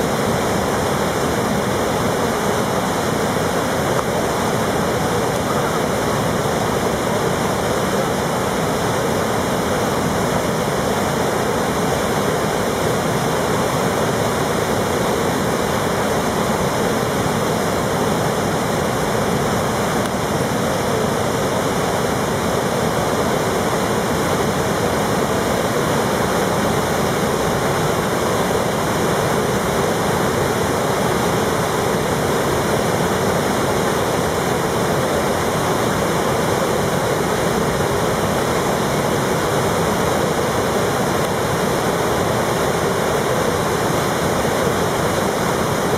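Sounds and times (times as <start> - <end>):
river rapids roaring: 0.0 - 45.9.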